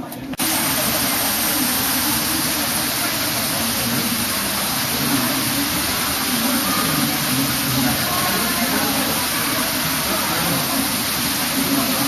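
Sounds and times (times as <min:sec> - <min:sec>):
waterfall rushing: 0:00.4 - 0:12.0.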